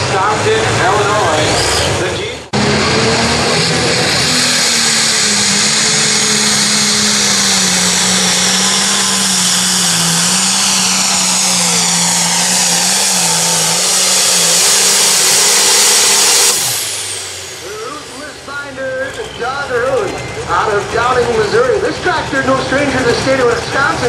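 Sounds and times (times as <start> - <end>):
diesel tractor engine at full throttle: 0.0 - 24.0
high turbo whine: 0.0 - 24.0.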